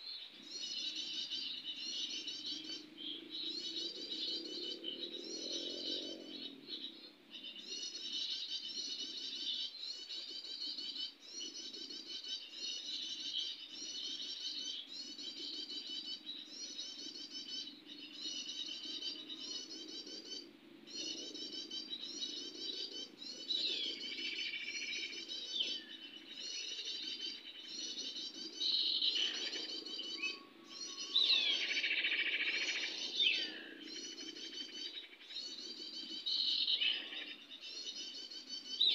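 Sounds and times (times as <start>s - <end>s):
small birds trilling: 0.0s - 38.9s.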